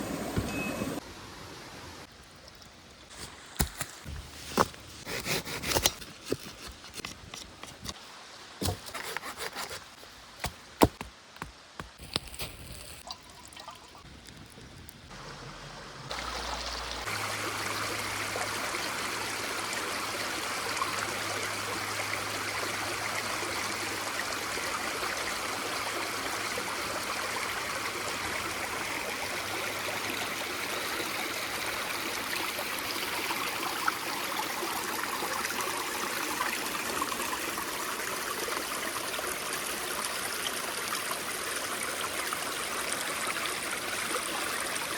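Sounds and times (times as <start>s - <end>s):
small stream trickling: 0.4s - 9.9s, 12.0s - 44.9s.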